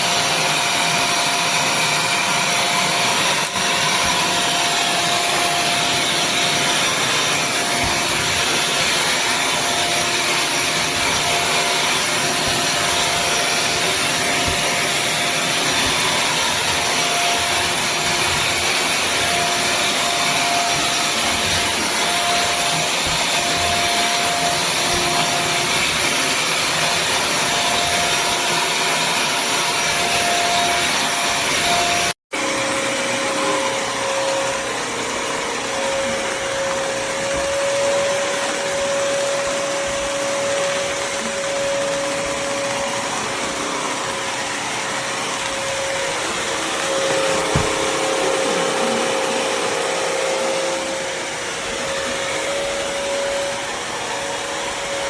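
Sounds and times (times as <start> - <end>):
wet-dry vacuum running: 0.0 - 55.0.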